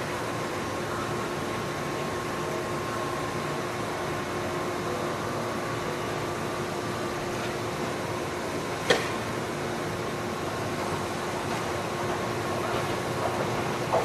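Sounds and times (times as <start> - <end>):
train wash rushing noise: 0.0 - 14.0.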